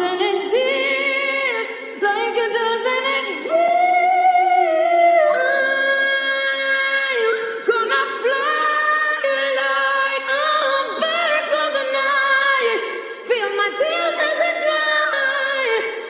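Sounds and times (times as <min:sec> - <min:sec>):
a cappella singing: 0:00.0 - 0:16.0.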